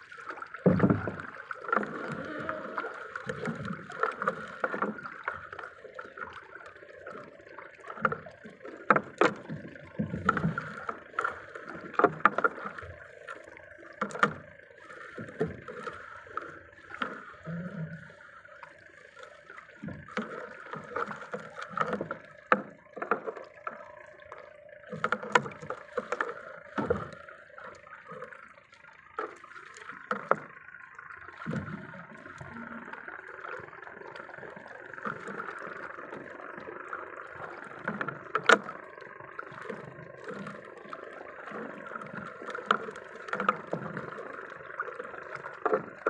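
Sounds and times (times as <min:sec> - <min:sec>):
water splashing around a boat: 0:00.0 - 0:46.0.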